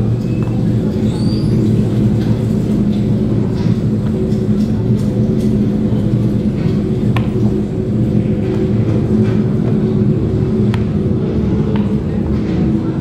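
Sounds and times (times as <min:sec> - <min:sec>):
low hum with stacked tones: 0:00.0 - 0:13.0.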